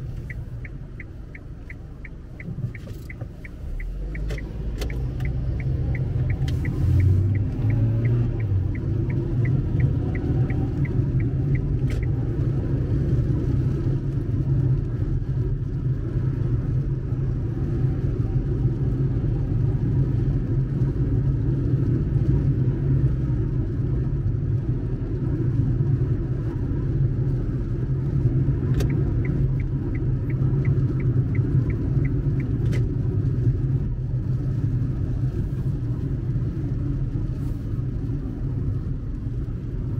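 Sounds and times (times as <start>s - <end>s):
car engine and road rumble: 0.0s - 39.9s
turn signal ticking: 0.0s - 39.9s.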